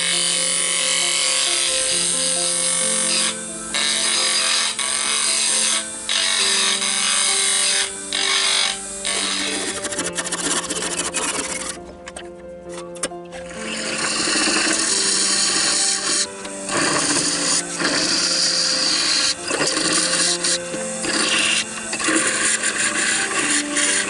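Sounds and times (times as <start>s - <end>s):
lathe tool hissing on wood: 0.0s - 11.8s, 13.5s - 24.0s
background music: 0.0s - 24.0s.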